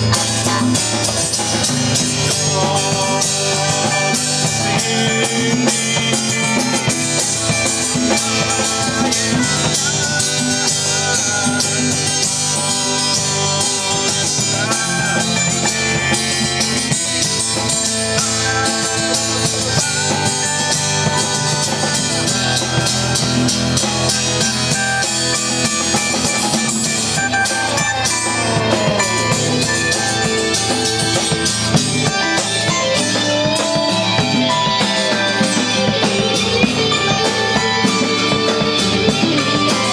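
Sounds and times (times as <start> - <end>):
lead guitar bent notes: 0.0 - 39.9
rock band jamming: 0.0 - 39.9.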